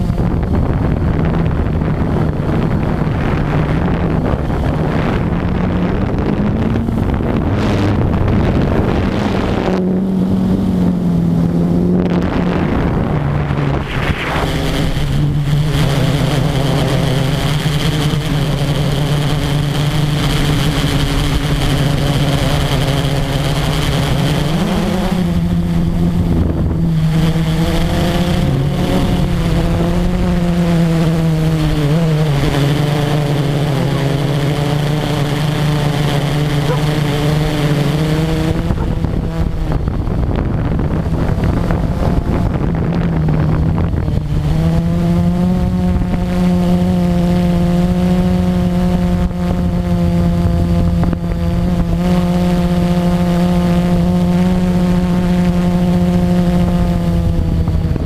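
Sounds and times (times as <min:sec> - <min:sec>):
drone motors buzzing: 0:00.0 - 0:58.0
wind rushing over microphone: 0:00.0 - 0:58.0.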